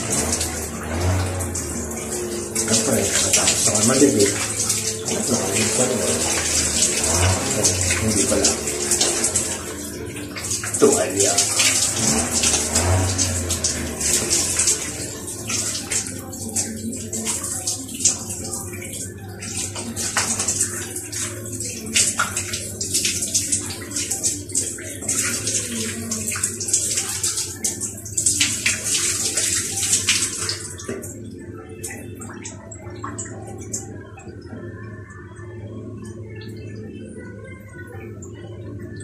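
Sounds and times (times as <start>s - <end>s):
shower water splashing: 0.0s - 35.1s.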